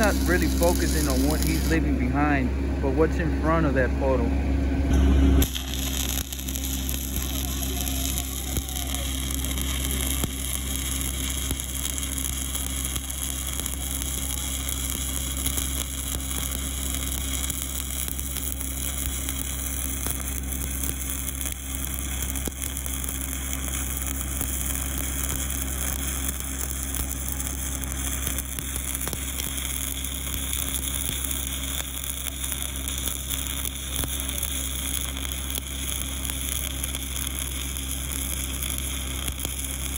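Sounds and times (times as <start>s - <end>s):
welding arc crackling: 0.0s - 2.4s, 5.4s - 39.9s
low steady hum: 0.0s - 39.9s.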